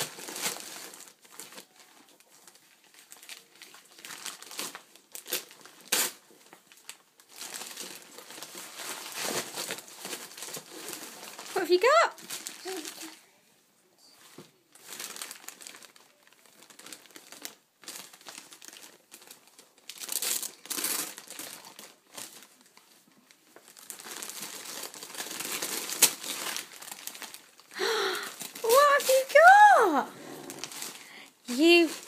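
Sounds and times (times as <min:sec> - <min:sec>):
wrapping paper crinkling: 0:00.0 - 0:13.3, 0:14.5 - 0:32.0.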